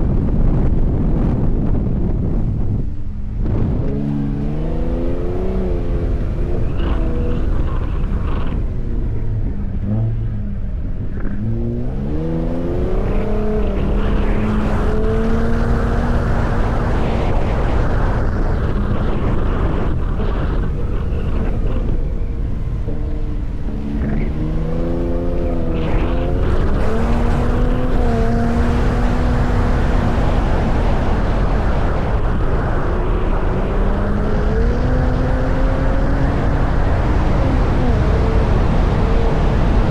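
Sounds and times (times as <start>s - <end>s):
low rumble: 0.0s - 39.9s
tyre and wind noise: 0.0s - 39.9s
truck engine driving: 3.1s - 39.9s.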